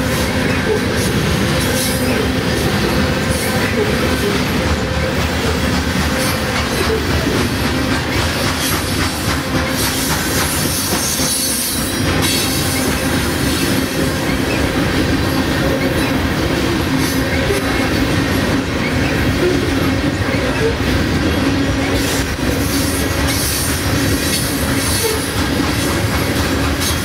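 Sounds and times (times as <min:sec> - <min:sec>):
train wheels on rails rattling: 0:00.0 - 0:27.0.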